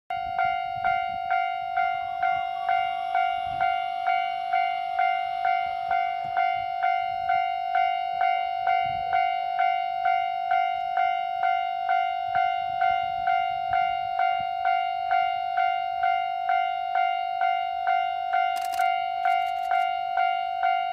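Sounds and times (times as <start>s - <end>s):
level-crossing warning bell ringing: 0.1s - 20.9s.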